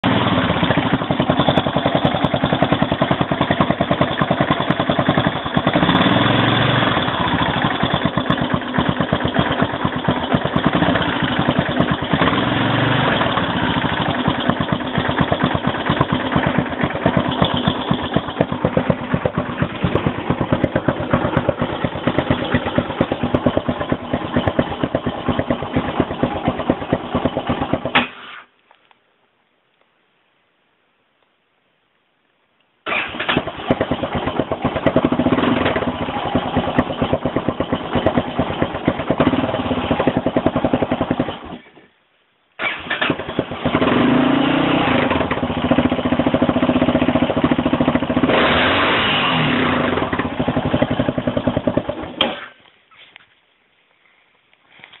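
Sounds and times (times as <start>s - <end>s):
motorcycle engine idling: 0.0s - 28.0s, 33.4s - 41.6s, 43.2s - 52.6s.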